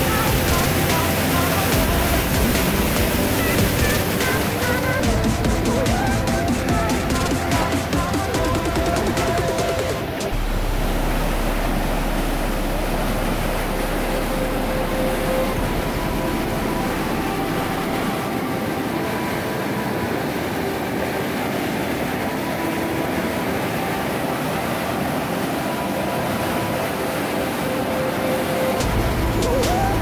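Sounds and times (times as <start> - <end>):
water rushing down canal: 0.0 - 30.0.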